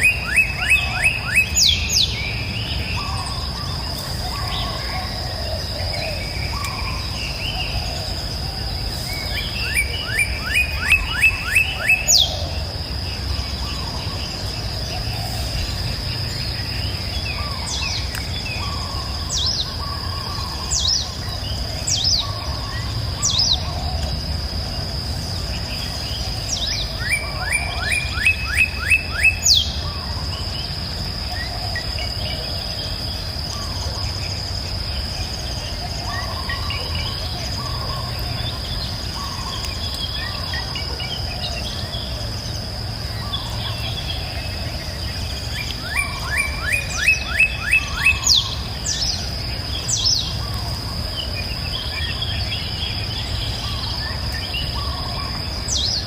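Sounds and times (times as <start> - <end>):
low warbling bird calls: 0.0 - 56.0
songbirds singing: 0.0 - 56.0.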